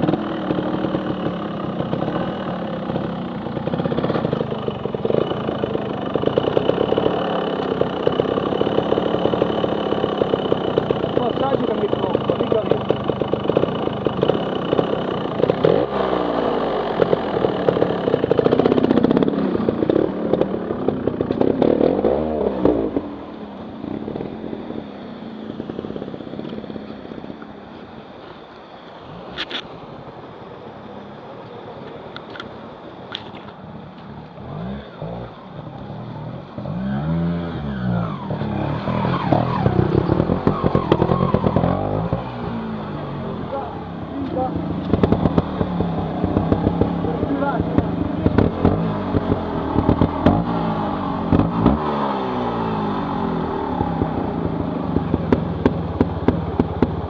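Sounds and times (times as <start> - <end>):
motorcycle engine revving: 0.0 - 27.7, 33.1 - 57.0.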